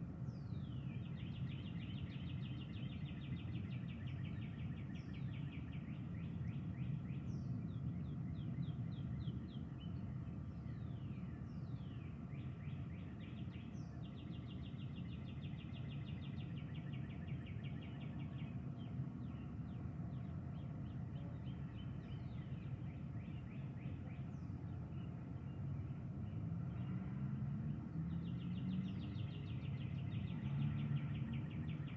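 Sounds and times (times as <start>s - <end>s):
songbirds singing: 0.0s - 31.9s.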